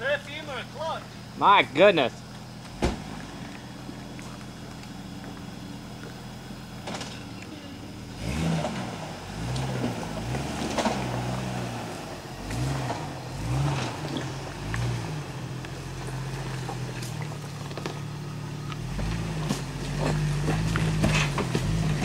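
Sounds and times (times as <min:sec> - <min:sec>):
suv engine revving: 0:00.0 - 0:22.0.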